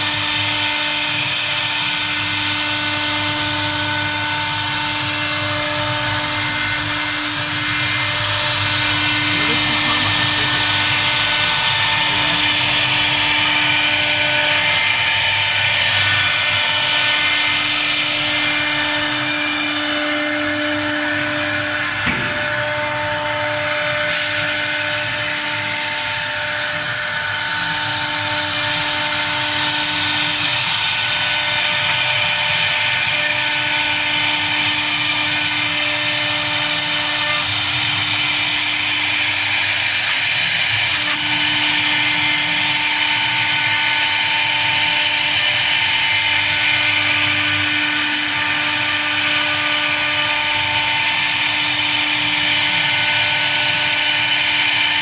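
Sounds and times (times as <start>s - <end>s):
machine whine: 0.0s - 55.0s.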